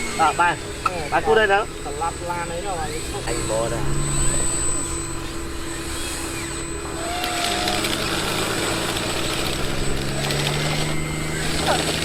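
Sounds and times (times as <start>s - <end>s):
small electric motors whirring: 0.0s - 12.0s
steady low hum: 0.0s - 12.0s.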